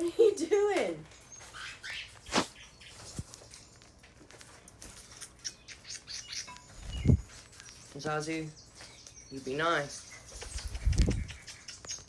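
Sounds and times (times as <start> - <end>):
cockatiels chirping: 1.1 - 12.0.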